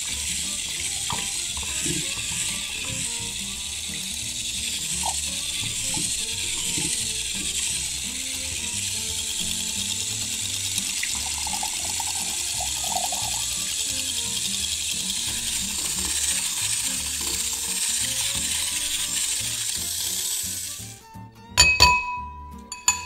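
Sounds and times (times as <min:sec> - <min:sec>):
whisk scraping a bowl: 0:00.0 - 0:21.0
soft background music: 0:00.0 - 0:23.0.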